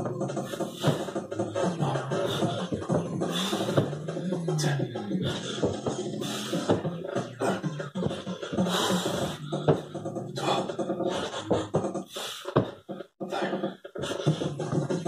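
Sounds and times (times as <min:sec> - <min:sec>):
electronic music with vocal samples: 0:00.0 - 0:15.0.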